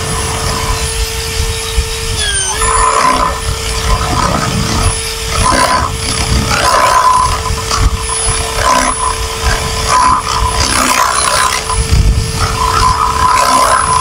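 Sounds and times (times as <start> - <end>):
drill bit grinding through wood: 0.0 - 14.0
electric drill motor whine: 0.0 - 14.0.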